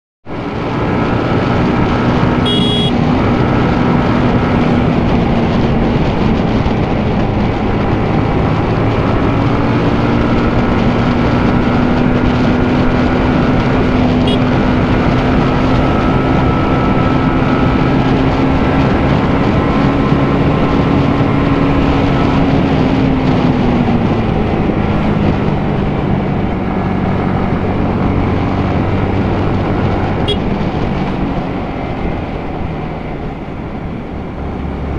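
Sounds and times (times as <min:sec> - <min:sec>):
motorcycle engine running: 0:00.6 - 0:34.9.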